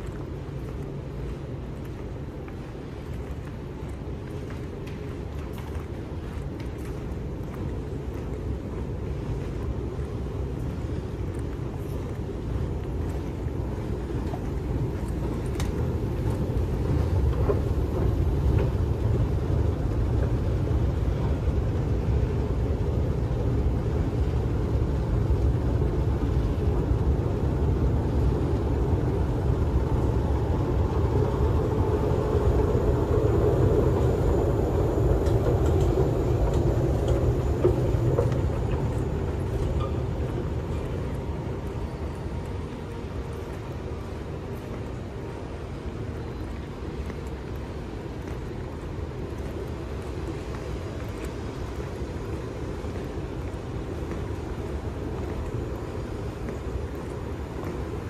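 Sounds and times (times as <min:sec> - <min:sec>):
street traffic rumbling: 0:00.0 - 0:58.0.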